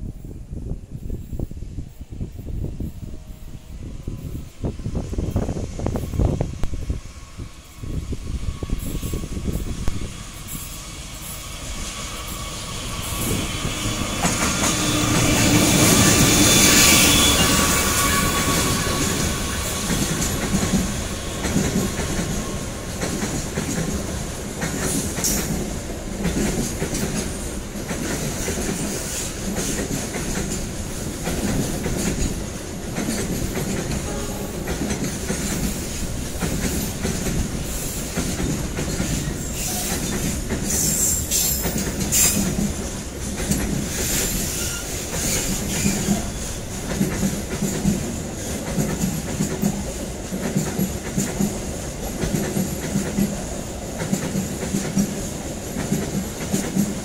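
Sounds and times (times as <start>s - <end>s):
diesel locomotive passing: 0.0s - 57.0s
train wheels clattering on rail joints: 8.7s - 57.0s.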